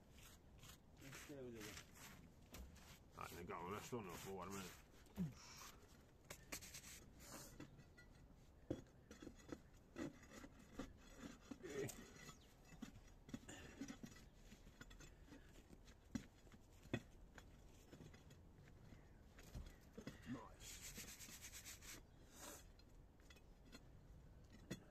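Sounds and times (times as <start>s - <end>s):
hands scraping soil on slabs: 0.0s - 24.9s.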